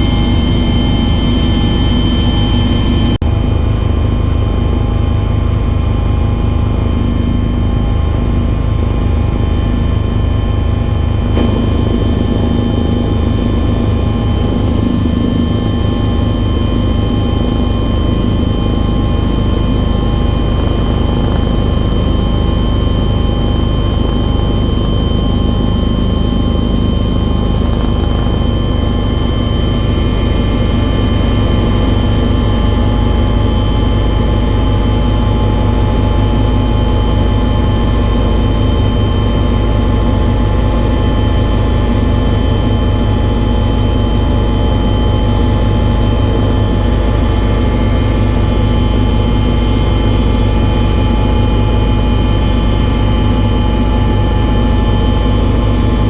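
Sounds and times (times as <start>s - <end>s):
engine drone with whining tones: 0.0s - 56.0s.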